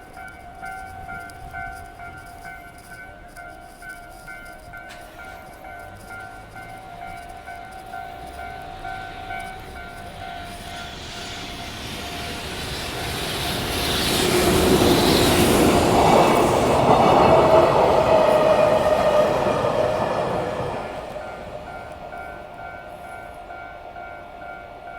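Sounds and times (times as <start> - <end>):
train passing: 0.0 - 24.9.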